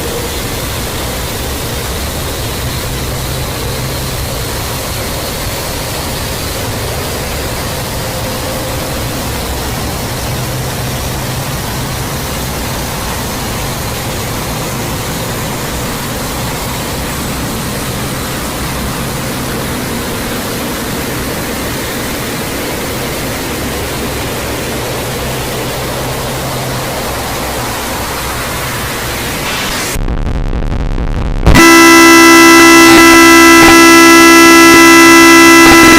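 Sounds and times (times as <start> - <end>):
loud static-like rushing noise: 0.0 - 35.9.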